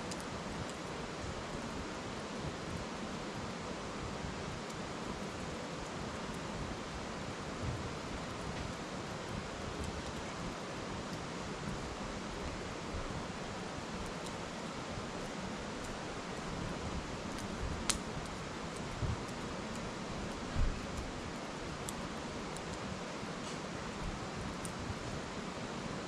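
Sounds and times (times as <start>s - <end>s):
fire popping: 0.0s - 25.3s
wood fire crackling: 0.0s - 26.0s.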